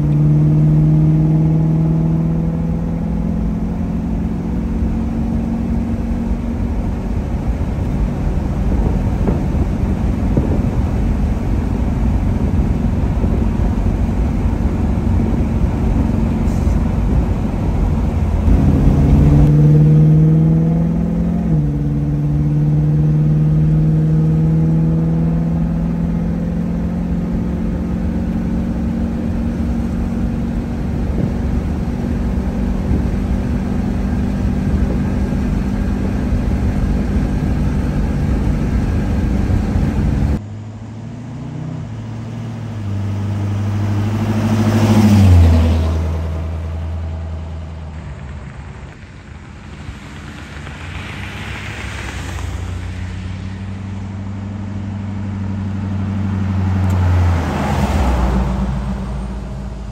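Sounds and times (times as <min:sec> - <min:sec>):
car driving past: 0:00.0 - 0:32.1, 0:33.0 - 0:59.9
car engine accelerating inside cabin: 0:00.0 - 0:59.9.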